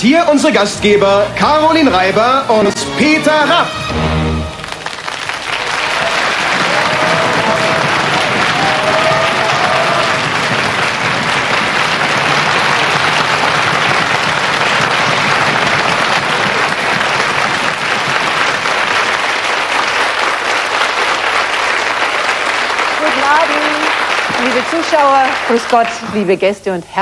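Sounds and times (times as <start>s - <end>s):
large audience applauding: 4.0s - 26.4s.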